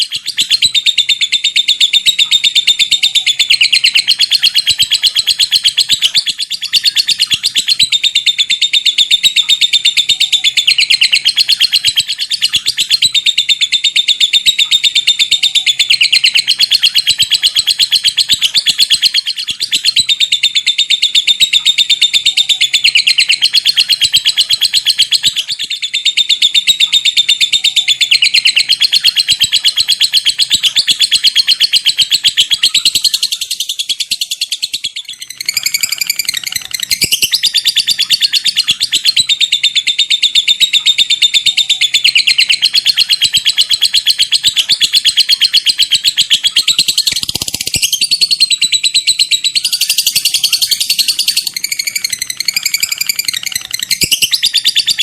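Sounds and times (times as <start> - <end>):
lovebird rapid chatter: 0.0 - 55.0.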